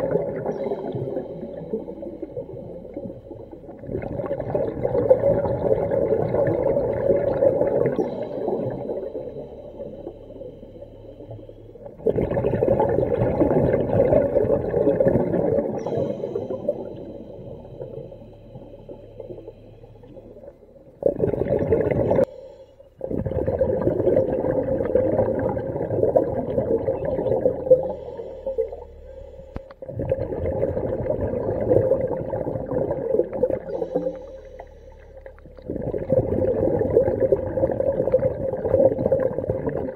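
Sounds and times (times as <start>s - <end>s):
underwater exhaled air bubbles: 0.0s - 39.9s.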